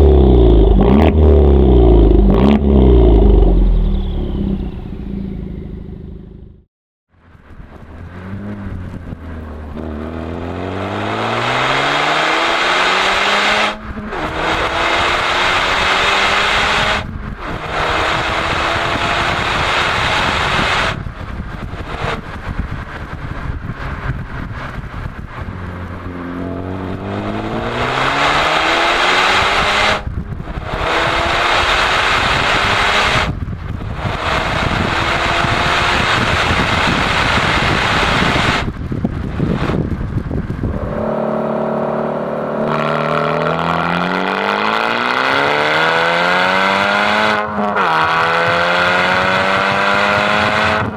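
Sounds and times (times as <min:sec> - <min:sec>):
car engine accelerating hard: 0:00.0 - 0:06.7, 0:07.4 - 0:50.9.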